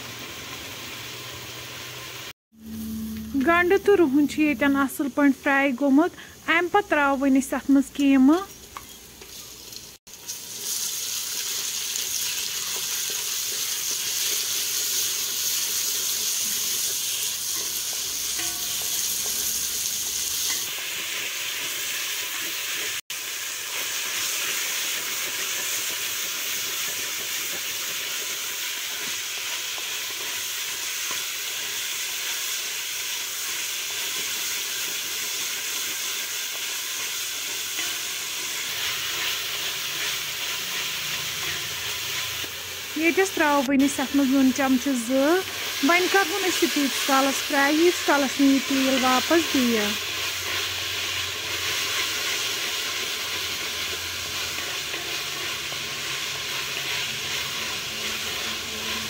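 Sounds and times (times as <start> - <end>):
meat sizzling in hot oil: 0.0 - 59.0.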